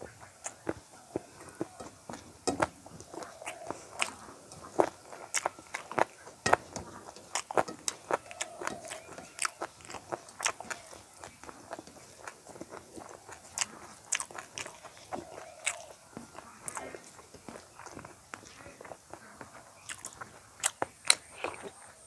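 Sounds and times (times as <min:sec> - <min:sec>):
chewing with lip smacks: 0:00.0 - 0:22.0
fingers squishing rice: 0:00.0 - 0:22.0.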